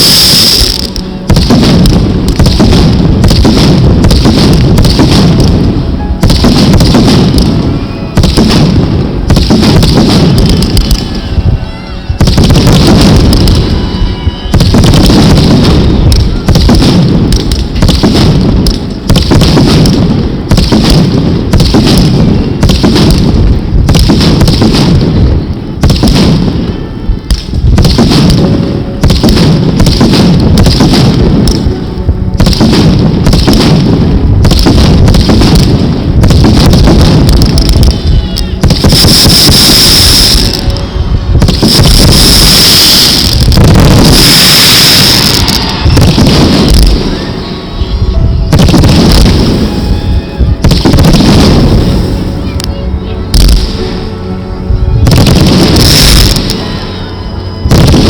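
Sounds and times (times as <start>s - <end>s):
fireworks booming and banging: 0.0s - 57.0s, 57.6s - 58.0s.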